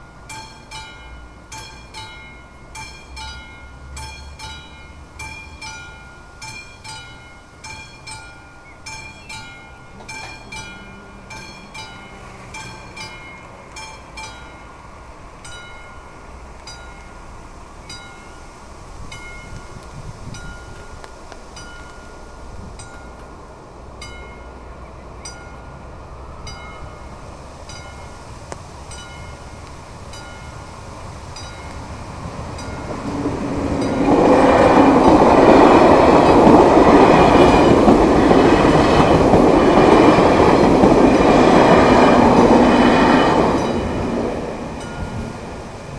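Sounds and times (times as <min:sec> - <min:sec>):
level crossing warning bells: 0:00.0 - 0:23.4, 0:24.0 - 0:28.3, 0:28.9 - 0:45.9
train approaching rumble: 0:00.0 - 0:45.9.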